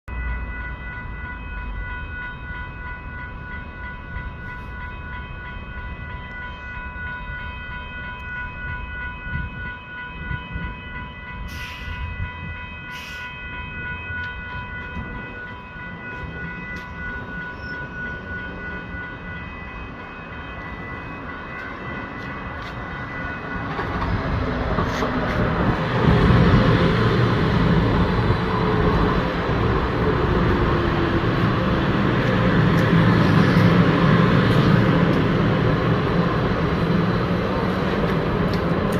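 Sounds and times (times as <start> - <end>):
train rumble and wheel noise: 0.1 - 38.9.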